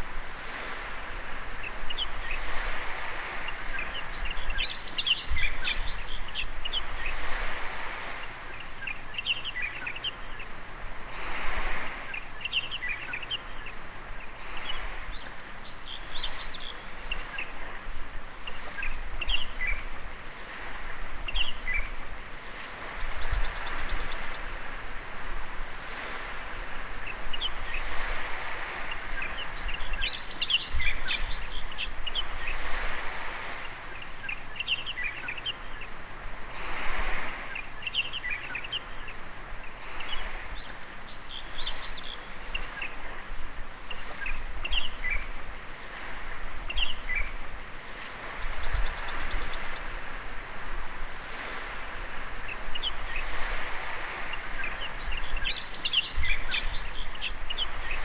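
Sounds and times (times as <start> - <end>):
small waves on a beach: 0.0 - 58.0
small birds chirping: 0.5 - 58.0.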